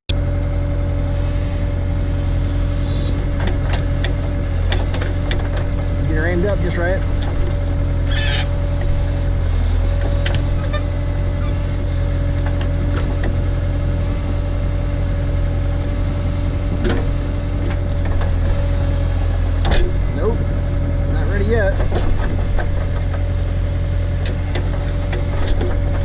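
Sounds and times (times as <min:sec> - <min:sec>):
tractor engine running: 0:00.1 - 0:26.0.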